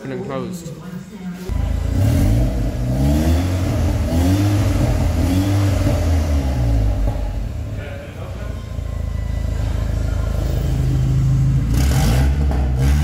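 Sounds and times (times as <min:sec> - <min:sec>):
car engine revving: 0:01.5 - 0:13.0.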